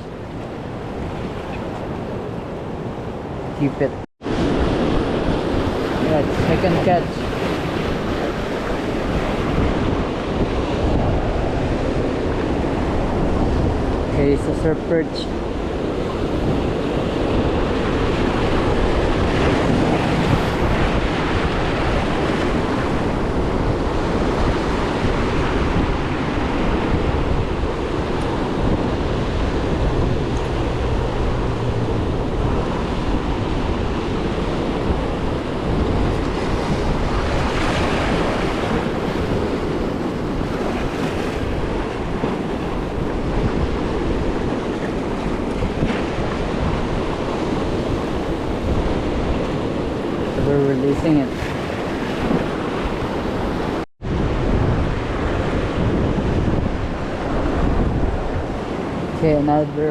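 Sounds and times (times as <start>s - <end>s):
surf washing against a jetty: 0.0s - 59.9s
wind buffeting the microphone: 0.0s - 59.9s.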